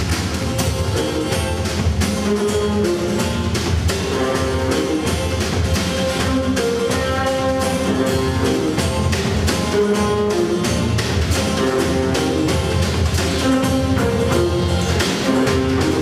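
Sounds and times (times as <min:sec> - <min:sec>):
guitars strumming: 0:00.0 - 0:16.0
held melody line: 0:00.3 - 0:16.0.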